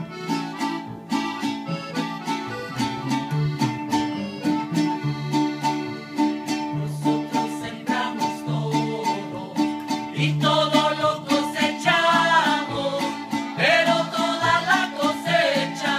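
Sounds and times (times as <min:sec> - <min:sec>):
accordion notes: 0:00.0 - 0:15.9
acoustic guitar strumming: 0:00.0 - 0:15.9
bass notes: 0:00.0 - 0:15.9.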